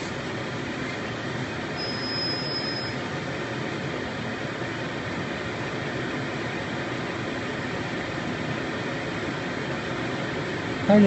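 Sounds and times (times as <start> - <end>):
thin high whine: 0.0 - 10.3.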